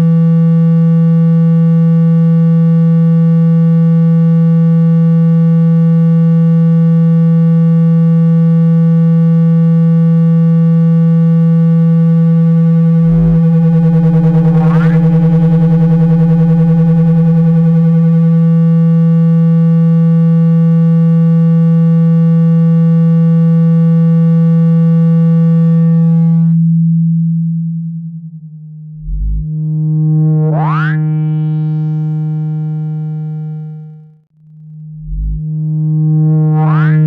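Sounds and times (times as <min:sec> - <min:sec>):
buzzy low synthesized tone: 0:00.0 - 0:37.0.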